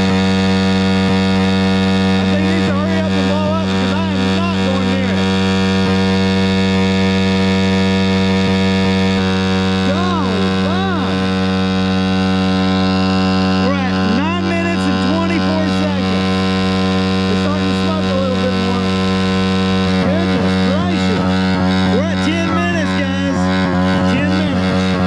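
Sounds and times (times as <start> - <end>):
small engine droning flat out: 0.0 - 25.0.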